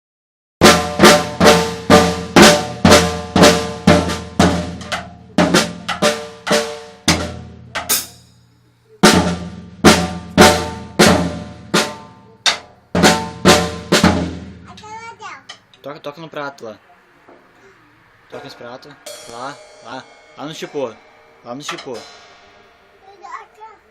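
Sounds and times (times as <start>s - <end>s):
drum strikes: 0.6s - 15.7s, 18.3s - 23.9s.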